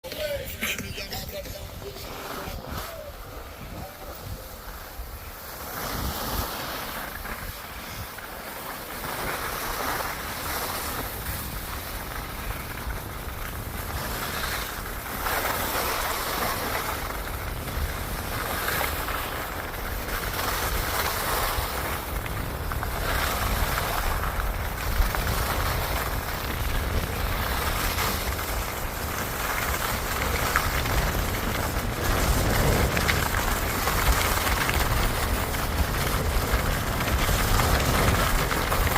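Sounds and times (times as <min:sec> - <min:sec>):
wind buffeting microphone: 0:01.3 - 0:08.4, 0:10.2 - 0:38.9.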